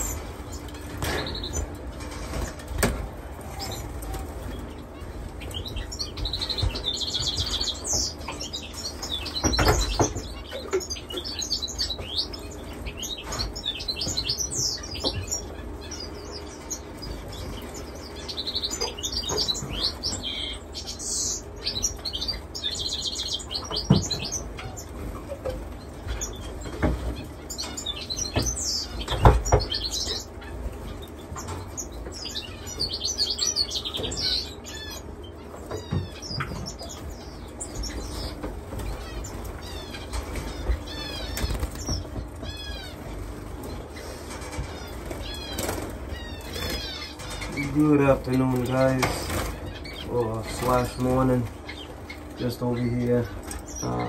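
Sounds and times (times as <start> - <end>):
finches chirping and twittering: 0.0 - 54.0.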